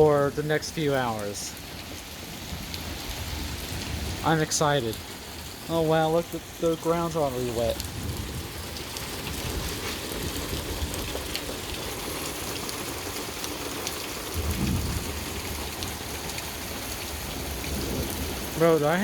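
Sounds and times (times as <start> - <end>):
raindrops ticking on phone: 0.0 - 19.0
steady rain: 0.0 - 19.0.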